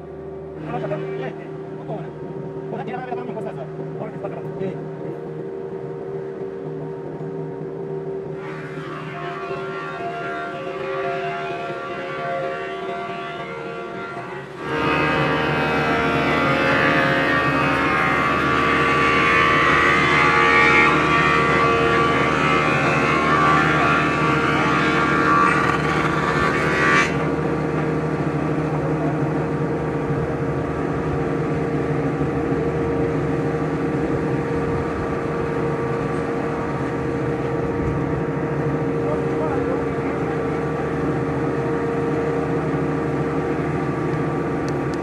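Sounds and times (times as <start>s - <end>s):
machine motor running: 0.0s - 45.0s.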